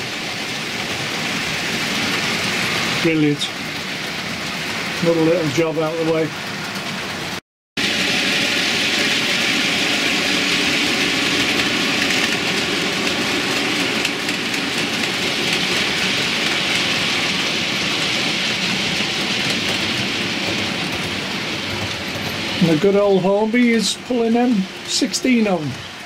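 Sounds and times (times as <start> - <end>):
model trains running on track: 0.0 - 26.0.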